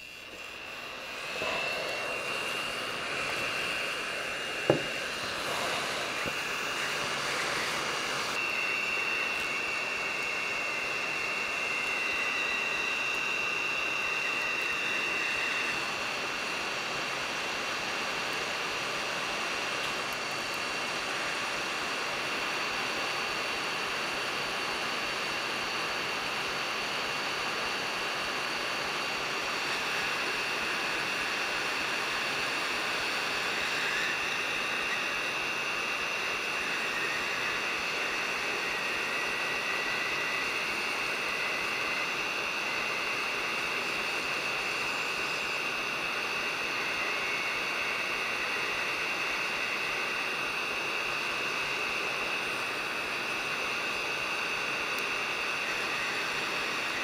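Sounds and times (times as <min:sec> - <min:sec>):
hot air station blowing: 0:00.0 - 0:57.0.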